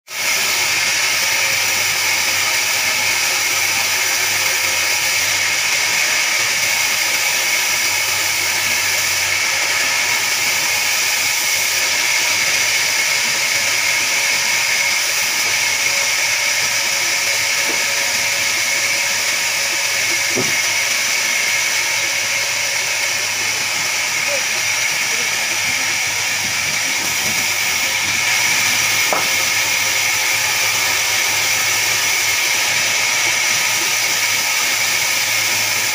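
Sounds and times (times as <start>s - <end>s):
band saw running: 0.1s - 35.9s.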